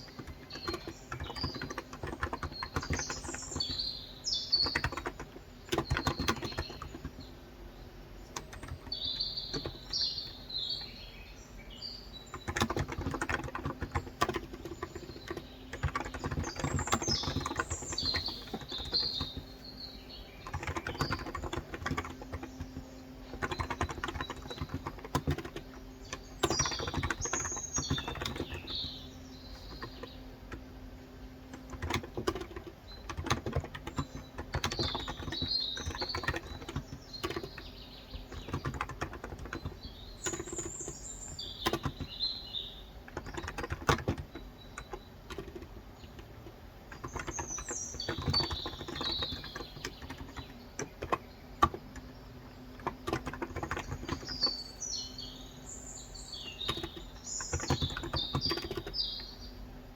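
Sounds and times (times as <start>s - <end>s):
keyboard typing: 0.0s - 7.3s, 8.2s - 11.1s, 12.1s - 59.4s
birds chirping: 0.0s - 59.9s
faint steady hum: 0.0s - 59.9s.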